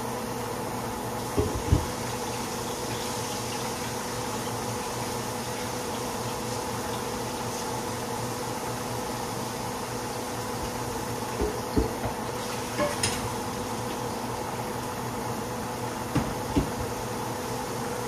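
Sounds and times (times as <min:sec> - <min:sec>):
hot grease hum and hiss: 0:00.0 - 0:18.0.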